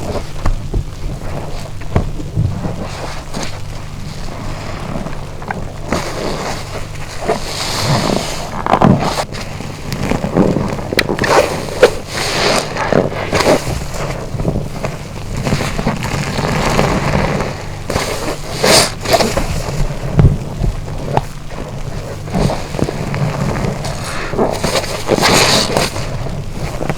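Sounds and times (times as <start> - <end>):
low steady hum: 0.0 - 26.9
wet sponge squelching: 0.0 - 26.9.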